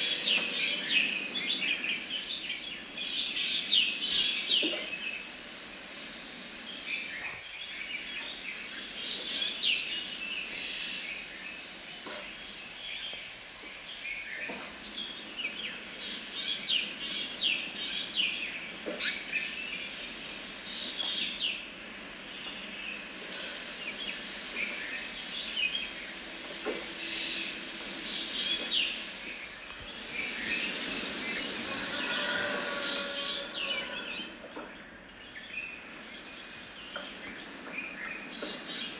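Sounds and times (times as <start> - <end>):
small birds chirping: 0.0 - 38.9
steady background noise: 0.0 - 38.9.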